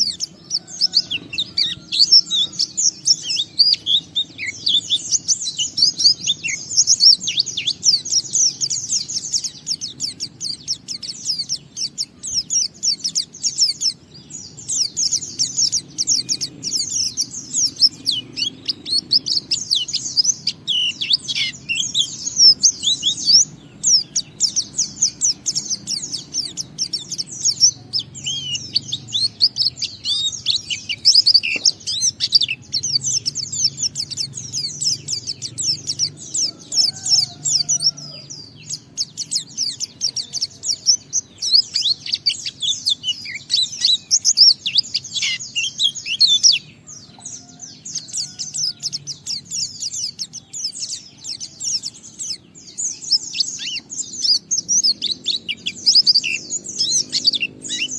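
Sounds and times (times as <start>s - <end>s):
bird twittering song: 0.0s - 57.9s.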